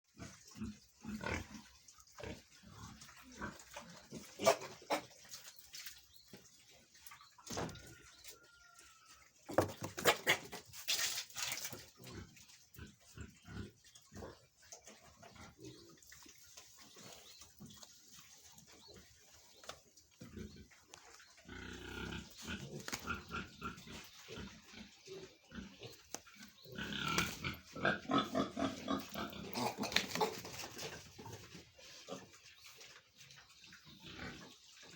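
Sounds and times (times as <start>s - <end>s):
pigs grunting and calling: 0.1s - 5.5s, 7.5s - 10.8s, 11.6s - 17.8s, 20.1s - 34.9s.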